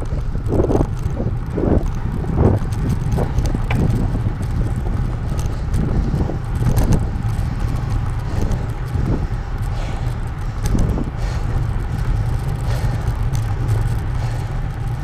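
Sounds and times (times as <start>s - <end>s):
bicycle rattling: 0.0s - 15.0s
low rumble of bicycle rolling: 0.0s - 15.0s
wind buffeting microphone: 0.0s - 15.0s.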